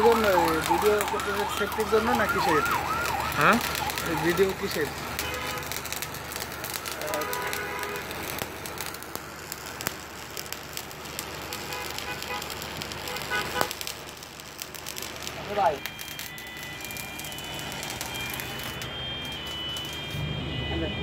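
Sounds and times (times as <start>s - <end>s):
hiss with crackles and clicks: 3.4s - 20.2s.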